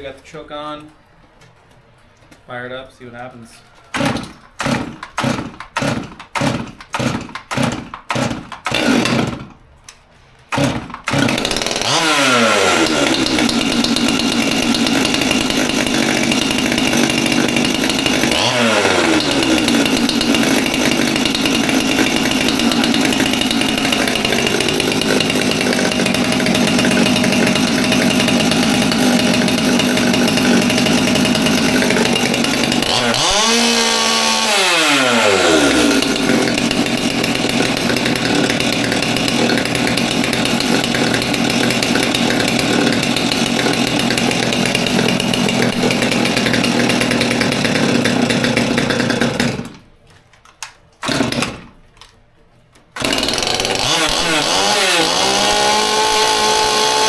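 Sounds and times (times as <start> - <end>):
chainsaw running at high speed: 4.0 - 9.4, 10.6 - 49.6, 53.0 - 57.0.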